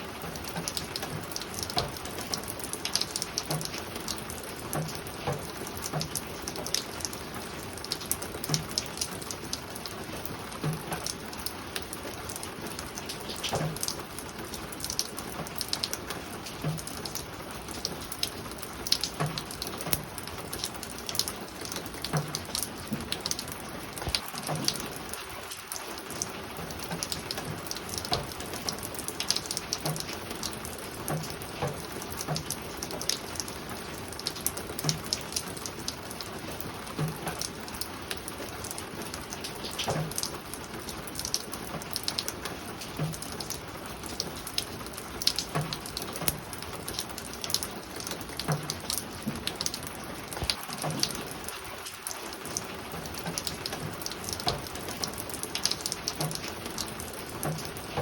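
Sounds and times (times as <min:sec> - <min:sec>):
rain pattering on a roof: 0:00.0 - 0:58.0
sharp drips: 0:00.0 - 0:58.0.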